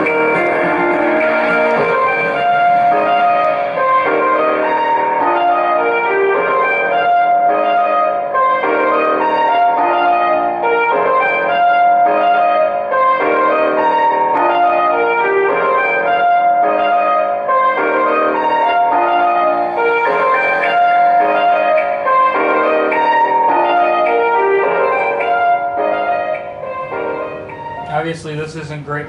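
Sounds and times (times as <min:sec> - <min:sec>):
instrumental music through speaker: 0:00.0 - 0:29.0.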